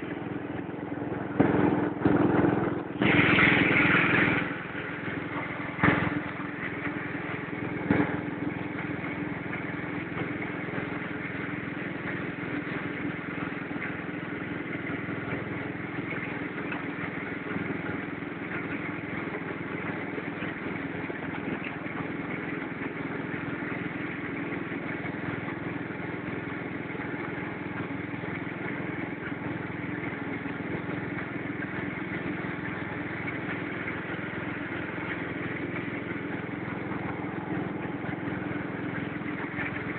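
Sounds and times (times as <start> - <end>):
garden tractor engine idling: 0.0 - 39.9.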